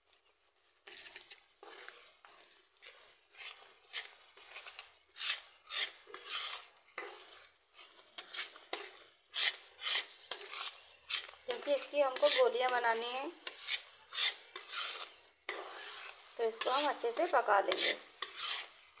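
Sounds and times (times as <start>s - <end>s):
spoon scraping and stirring pan: 0.0s - 19.0s.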